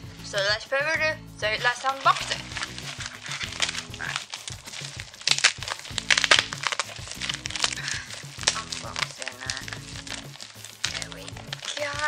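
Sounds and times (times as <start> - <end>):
background music: 0.0 - 12.0
padded envelope tearing open: 1.6 - 12.0.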